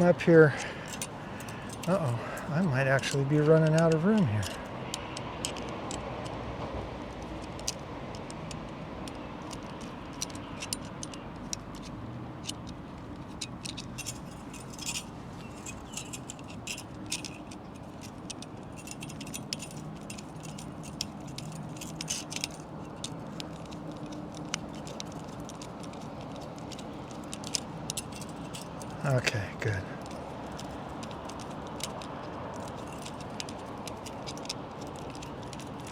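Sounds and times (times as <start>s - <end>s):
metal hose clamps clicking: 0.0s - 6.4s, 7.2s - 29.3s, 30.0s - 35.9s.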